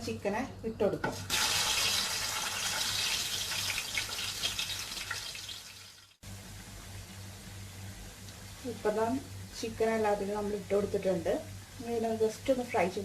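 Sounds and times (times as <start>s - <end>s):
hot oil sizzling: 1.1s - 13.0s.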